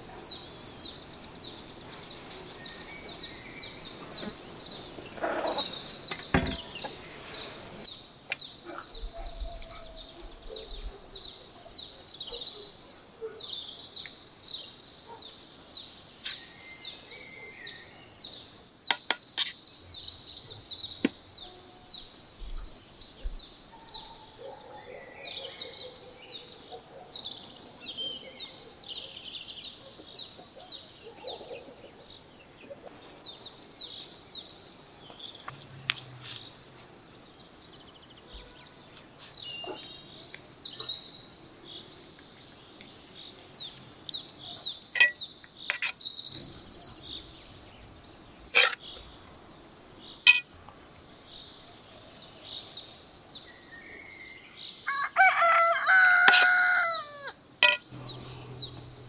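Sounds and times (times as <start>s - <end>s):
songbird chirping: 0.0s - 59.0s.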